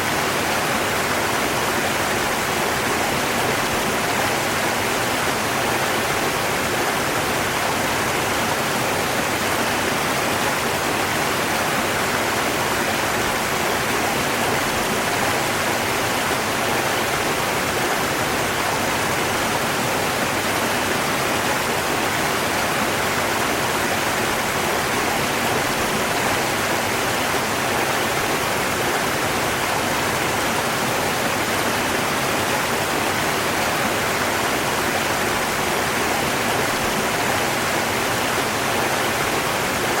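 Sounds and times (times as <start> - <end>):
river water rushing: 0.0 - 40.0.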